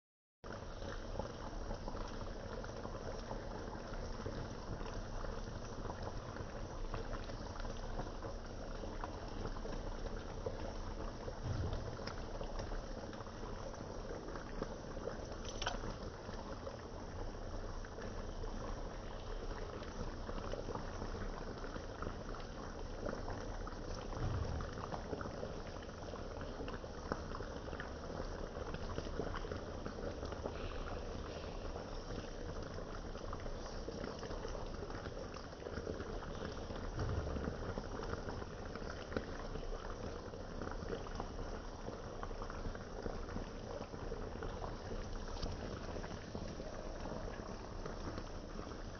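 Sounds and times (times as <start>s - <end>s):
sauce bubbling and crackling in skillet: 0.5s - 48.9s.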